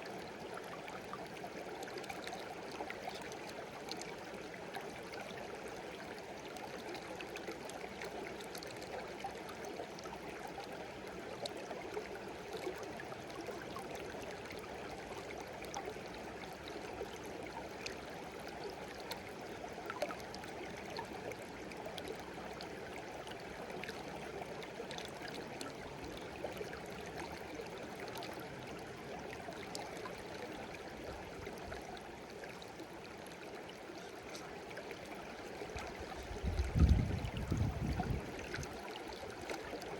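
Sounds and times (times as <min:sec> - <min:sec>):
stream babbling: 0:00.0 - 0:39.9
water splashes and drips: 0:00.0 - 0:39.9.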